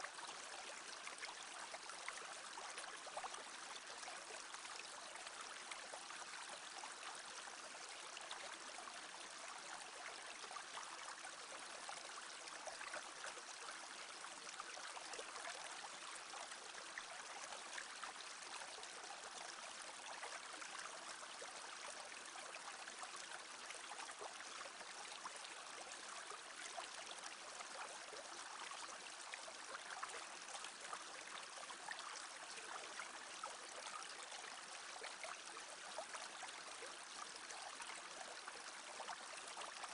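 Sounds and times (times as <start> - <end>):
brook babbling: 0.0 - 39.9.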